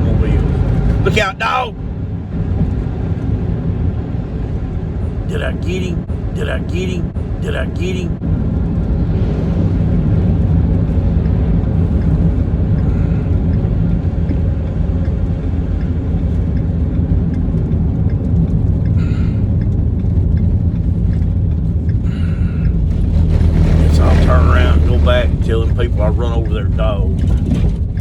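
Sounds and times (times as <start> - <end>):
vehicle engine and road hum: 0.0 - 28.0.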